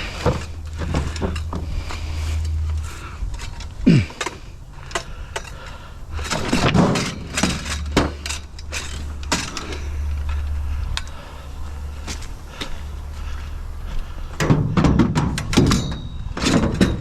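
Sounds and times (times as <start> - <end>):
scrap metal clanking: 0.0 - 11.2, 14.3 - 17.0
scraping rush: 0.0 - 14.4
steady low hum: 0.0 - 17.0.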